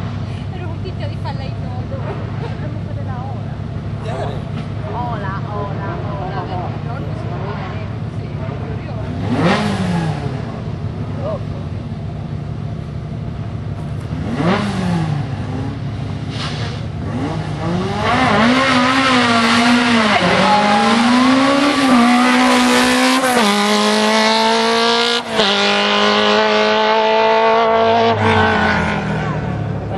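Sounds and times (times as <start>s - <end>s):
race car engine accelerating: 3.9s - 11.8s, 13.6s - 29.9s.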